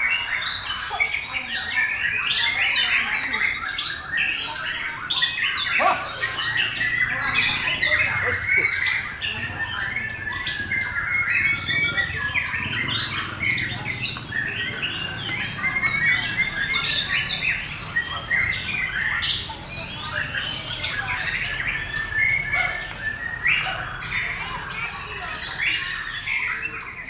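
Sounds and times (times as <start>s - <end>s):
birds singing: 0.0s - 27.0s.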